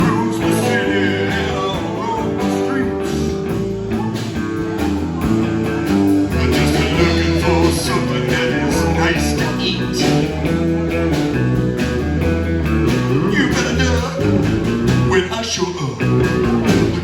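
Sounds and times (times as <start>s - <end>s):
electric guitar riff: 0.0s - 15.2s, 16.0s - 17.0s
bass: 0.0s - 17.0s
drums: 0.0s - 17.0s.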